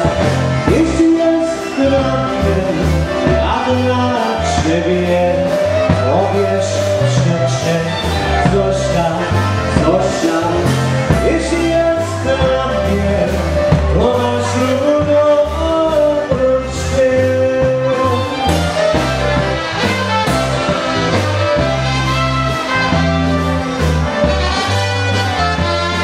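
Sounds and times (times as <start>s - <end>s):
polka band playing a waltz: 0.0s - 26.0s.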